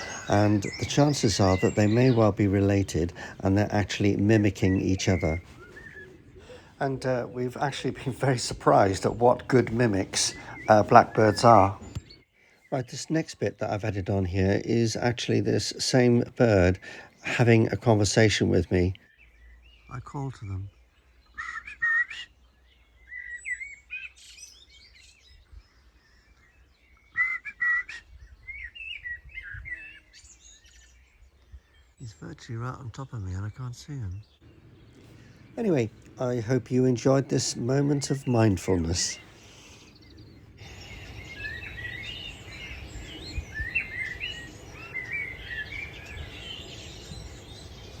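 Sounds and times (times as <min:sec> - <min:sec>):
blackbird singing: 0:00.0 - 0:48.0.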